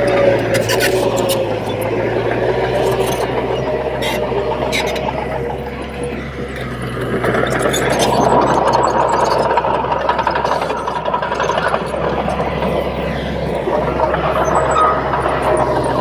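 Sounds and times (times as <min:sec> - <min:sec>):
bulldozer diesel engine running: 0:00.0 - 0:16.0
clatter of tracks: 0:00.0 - 0:16.0.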